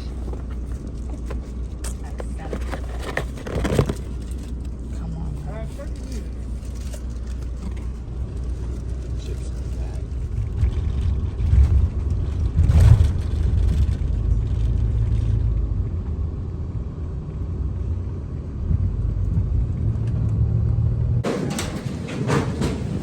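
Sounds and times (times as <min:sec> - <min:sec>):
car road rumble from inside: 0:00.0 - 0:21.3.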